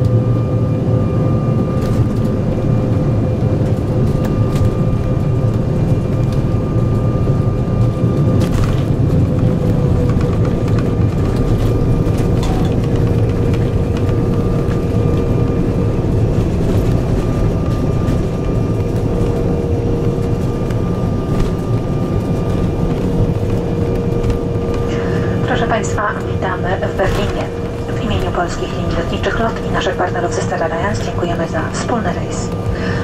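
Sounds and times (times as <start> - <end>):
engine whine: 0.0 - 33.0
jet engine rumble: 0.0 - 33.0.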